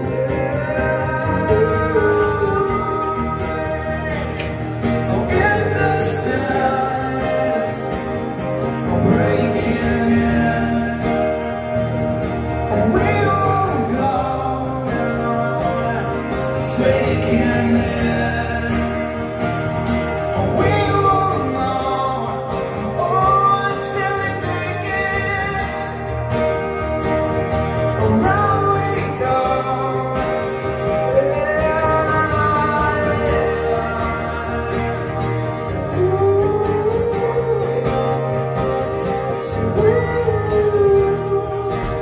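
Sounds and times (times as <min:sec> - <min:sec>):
acoustic guitars playing: 0:00.0 - 0:42.0
man singing: 0:00.0 - 0:42.0.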